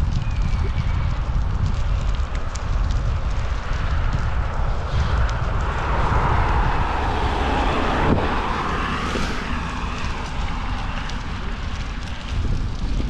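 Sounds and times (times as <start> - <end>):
wind buffeting microphone: 0.0 - 13.0
passing vehicle: 2.2 - 13.0.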